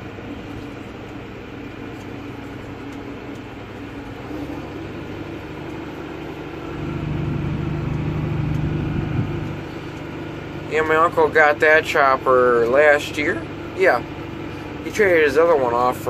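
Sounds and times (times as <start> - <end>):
tractor engine hum: 0.0 - 16.0.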